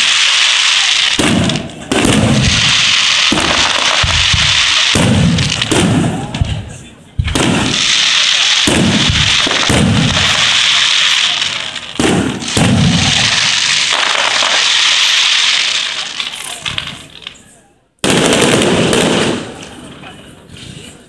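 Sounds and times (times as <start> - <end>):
firework shells bursting: 0.0 - 19.9
dense crackling of fireworks: 0.0 - 21.0.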